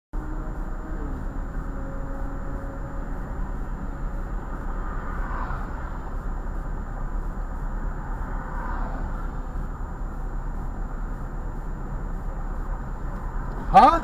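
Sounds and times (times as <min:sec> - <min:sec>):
traffic engines rumbling: 0:00.1 - 0:14.0.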